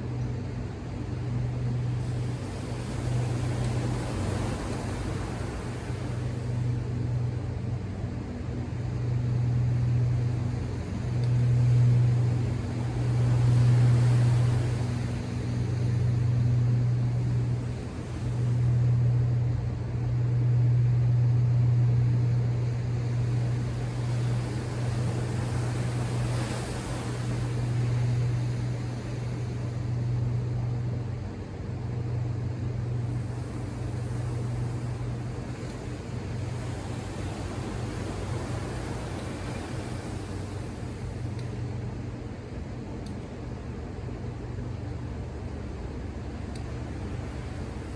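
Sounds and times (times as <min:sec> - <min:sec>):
ocean surf washing ashore: 0:01.2 - 0:31.8, 0:32.4 - 0:42.8, 0:43.9 - 0:47.9.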